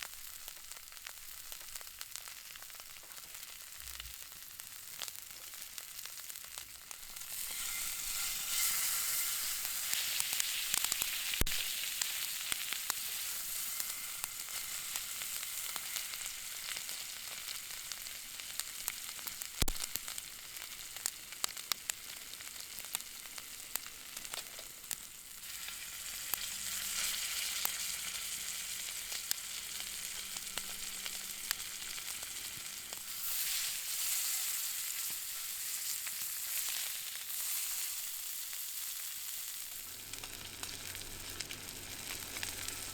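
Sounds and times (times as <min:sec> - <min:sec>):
food sizzling in frying pan: 0:00.0 - 0:42.9.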